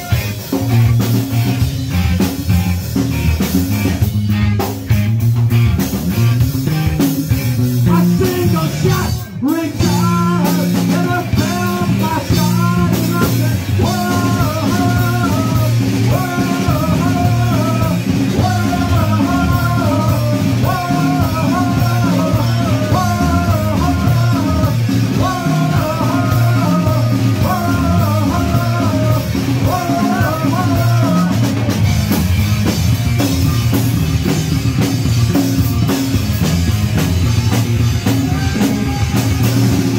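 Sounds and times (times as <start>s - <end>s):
live punk rock band: 0.0s - 39.9s.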